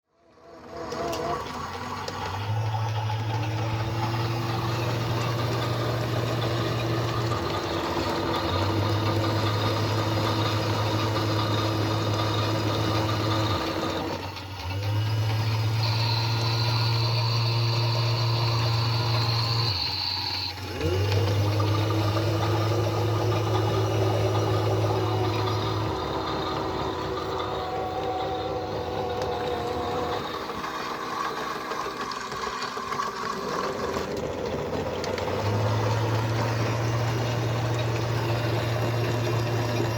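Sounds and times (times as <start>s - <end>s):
washing machine motor humming: 0.2s - 39.9s.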